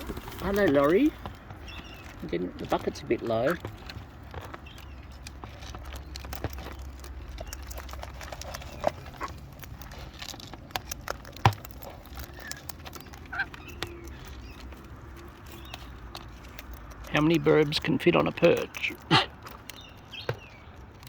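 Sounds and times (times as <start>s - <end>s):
beaks and claws clicking: 0.0s - 21.0s.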